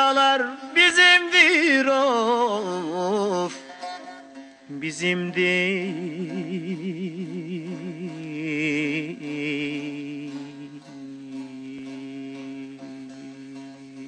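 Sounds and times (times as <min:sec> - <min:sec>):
folk music: 0:00.0 - 0:14.0
folk singer with vibrato: 0:00.0 - 0:14.0.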